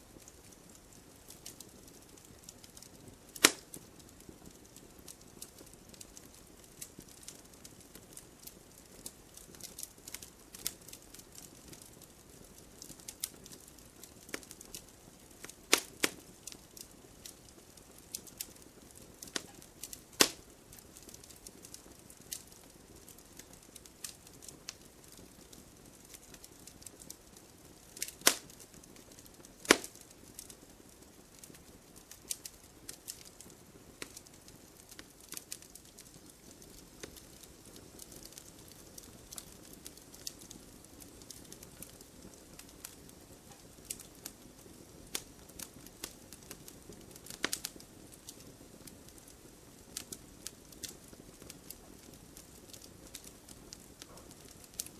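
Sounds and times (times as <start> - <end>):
wood bonfire crackling: 0.0 - 54.9.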